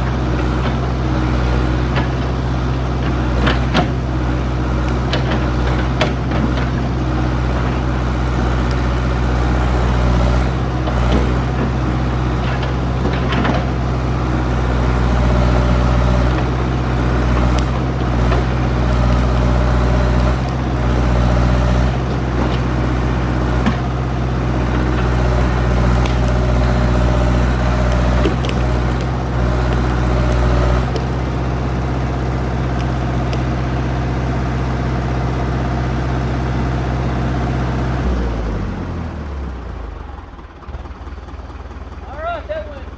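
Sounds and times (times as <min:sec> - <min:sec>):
backhoe engine droning: 0:00.0 - 0:42.9.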